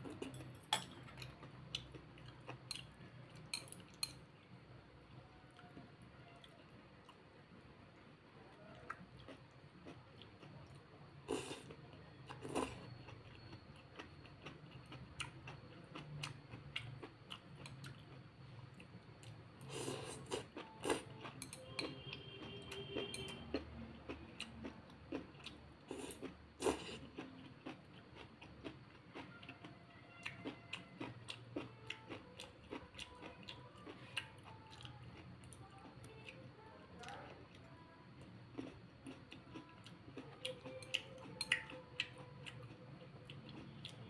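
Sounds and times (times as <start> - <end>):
chewing: 0.0 - 4.2, 8.0 - 44.0.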